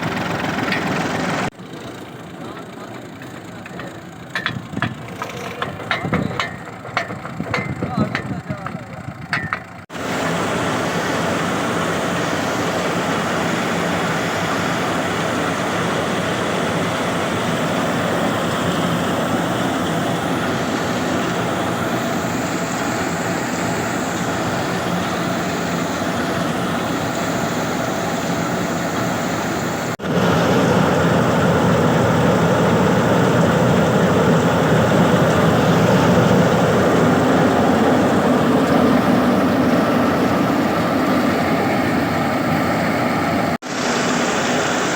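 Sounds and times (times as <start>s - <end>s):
threshing machine running: 0.0s - 44.9s.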